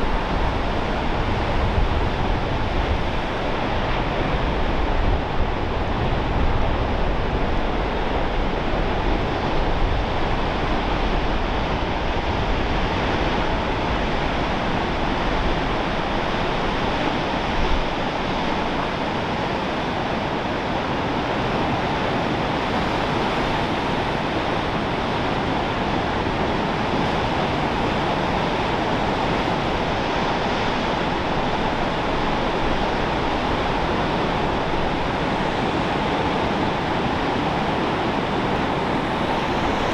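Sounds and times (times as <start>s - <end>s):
ocean surf: 0.0s - 39.9s
wind: 0.0s - 39.9s
wind buffeting microphone: 0.0s - 39.9s.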